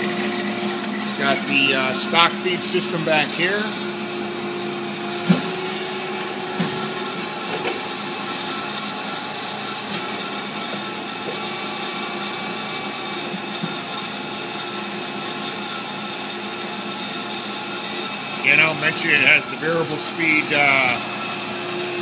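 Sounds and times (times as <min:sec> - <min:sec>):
band saw mechanical hum: 0:00.0 - 0:22.0.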